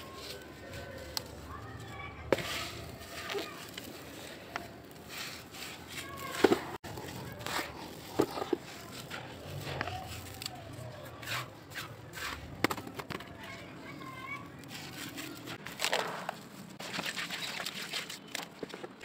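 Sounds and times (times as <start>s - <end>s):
hands raking through dry dirt: 0.0s - 12.7s, 13.4s - 18.9s.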